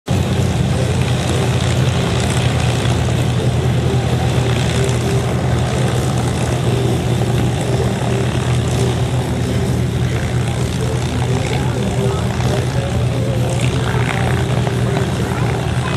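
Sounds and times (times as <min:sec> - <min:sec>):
propeller plane engine running: 0:00.0 - 0:15.9.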